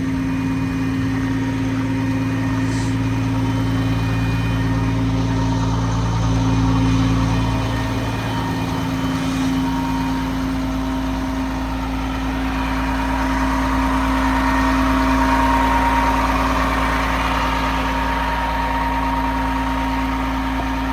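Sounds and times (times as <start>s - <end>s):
diesel truck engine idling: 0.0s - 20.9s
steady whine: 0.0s - 20.9s.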